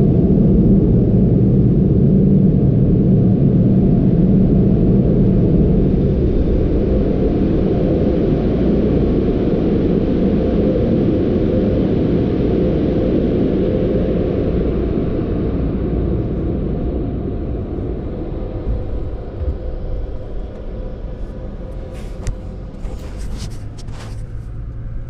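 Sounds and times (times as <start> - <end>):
muffled rumble inside car: 0.0 - 25.0.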